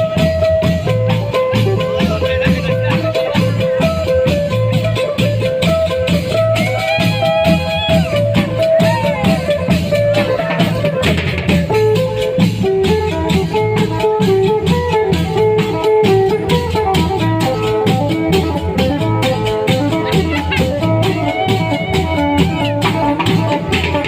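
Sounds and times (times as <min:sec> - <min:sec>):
long-drum band music: 0:00.0 - 0:24.0.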